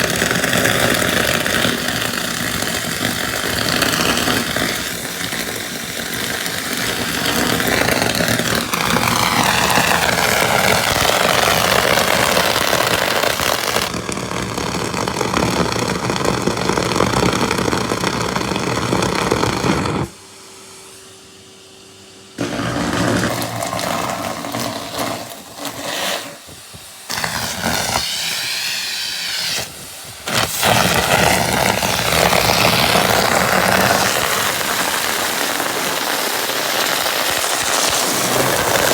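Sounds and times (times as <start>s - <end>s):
vacuum cleaner struggling: 0.0s - 20.1s, 22.4s - 38.9s.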